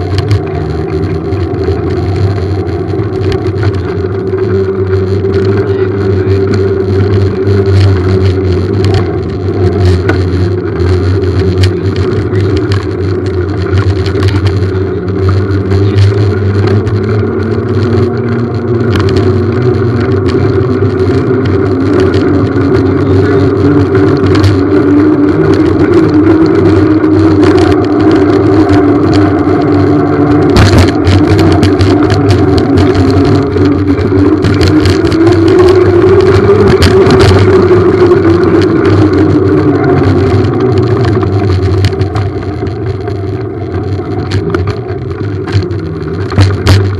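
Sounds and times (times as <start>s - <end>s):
clicks and rattles: 0.0s - 46.9s
small engine running: 0.0s - 46.9s.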